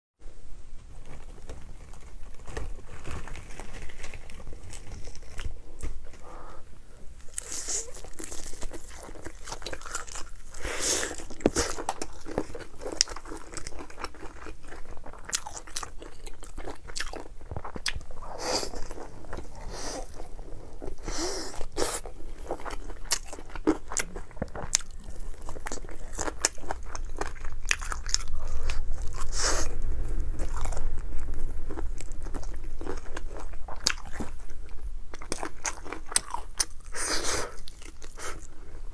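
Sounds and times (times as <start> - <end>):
crunching and chewing crispy food: 0.9 - 38.9.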